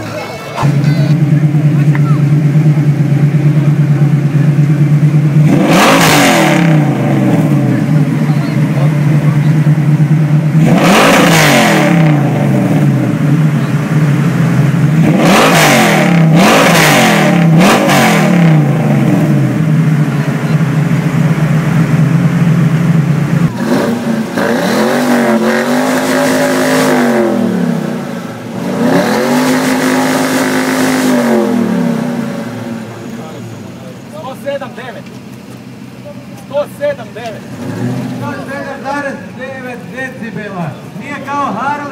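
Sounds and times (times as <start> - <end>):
car engine idling: 0.0 - 41.9
car engine revving: 0.0 - 41.9.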